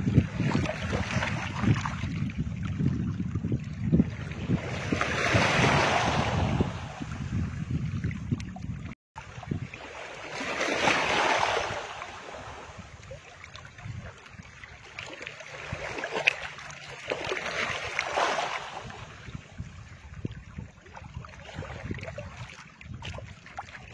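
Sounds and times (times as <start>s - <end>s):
wind blowing across microphone: 0.0s - 23.9s.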